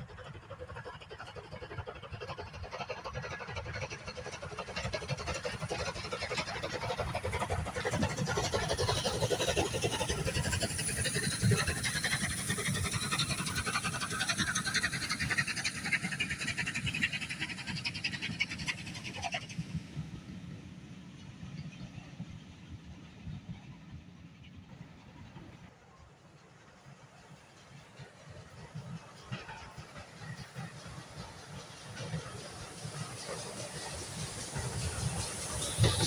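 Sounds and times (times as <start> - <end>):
steam locomotive exhaust beats: 0.0 - 36.0.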